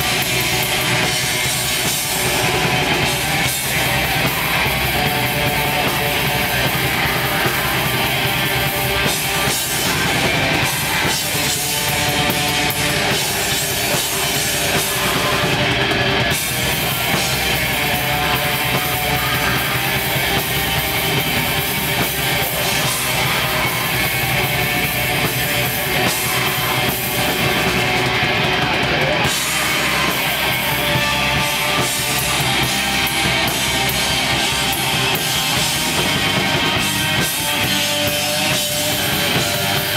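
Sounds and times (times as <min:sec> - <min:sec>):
black metal band playing: 0:00.0 - 0:39.9.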